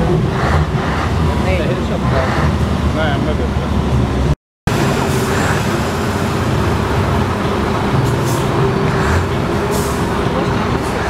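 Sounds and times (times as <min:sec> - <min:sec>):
engine whine: 0:00.0 - 0:11.0
truck engines idling: 0:00.0 - 0:11.0.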